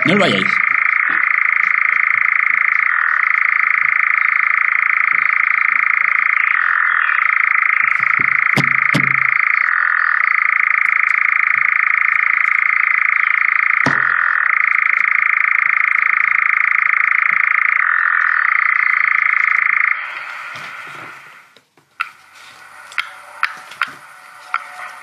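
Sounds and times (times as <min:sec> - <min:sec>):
nightjar churring from speaker: 0:00.0 - 0:20.4, 0:21.4 - 0:25.0.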